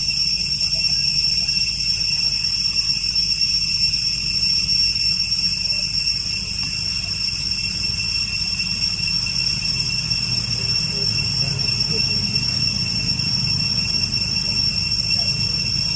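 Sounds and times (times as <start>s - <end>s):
cicadas droning: 0.0s - 15.9s.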